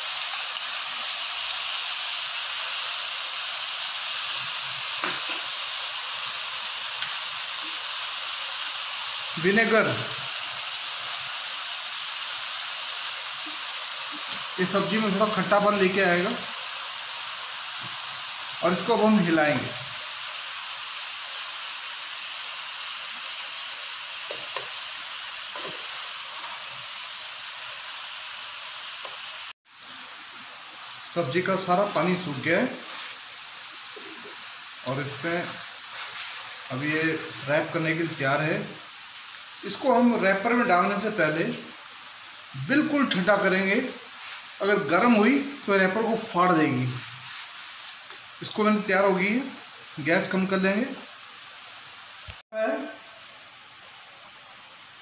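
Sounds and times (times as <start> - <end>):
vegetables sizzling in hot oil: 0.0 - 55.0.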